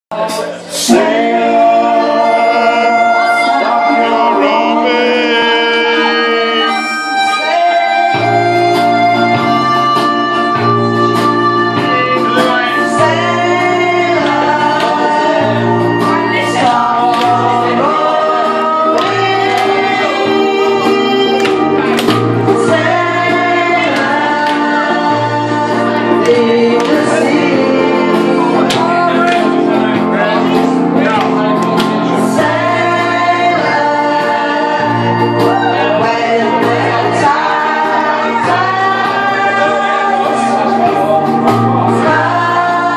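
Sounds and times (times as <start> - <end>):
music with singing: 0.1 - 42.9.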